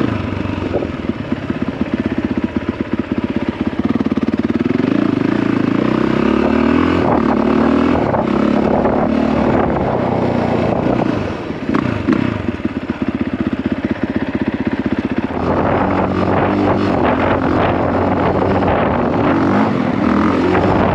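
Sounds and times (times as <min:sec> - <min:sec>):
dirt bike engine: 0:00.0 - 0:20.9.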